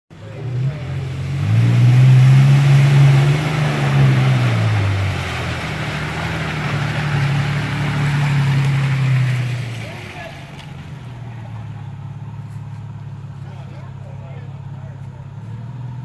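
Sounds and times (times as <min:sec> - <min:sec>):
pickup engine revving: 0:00.1 - 0:16.0
tyres churning through mud: 0:00.1 - 0:16.0.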